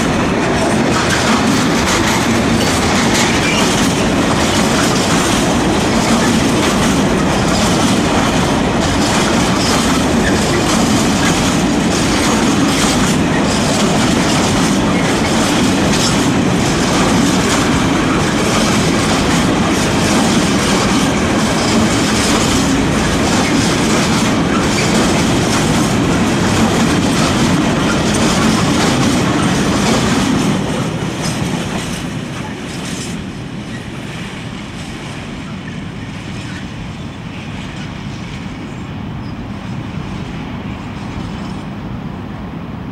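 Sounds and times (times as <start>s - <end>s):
freight train wheels clattering on rails: 0.0s - 41.9s.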